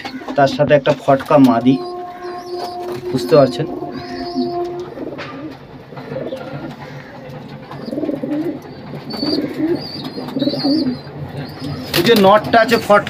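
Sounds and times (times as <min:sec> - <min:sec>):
pigeons cooing: 0:01.3 - 0:12.9.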